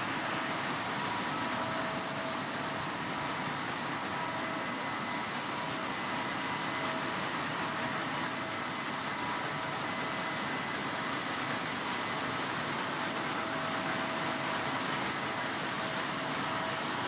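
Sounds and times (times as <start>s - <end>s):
combine harvester running: 0.0s - 17.0s
faint steady whining tones: 0.0s - 17.0s.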